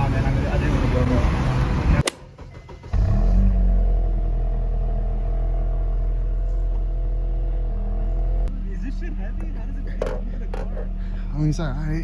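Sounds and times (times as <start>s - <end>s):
car engine idling: 2.1s - 12.0s.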